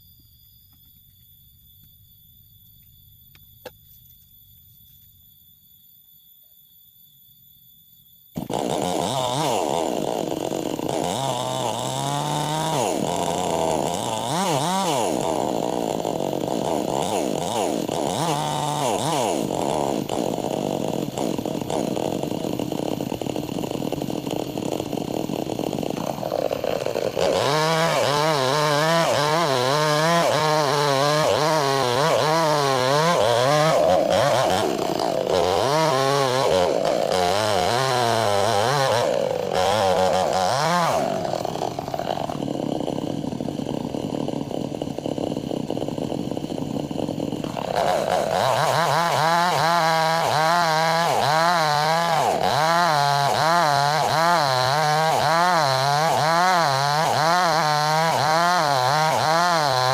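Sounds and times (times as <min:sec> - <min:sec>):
chainsaw cutting wood: 0:08.4 - 0:59.9.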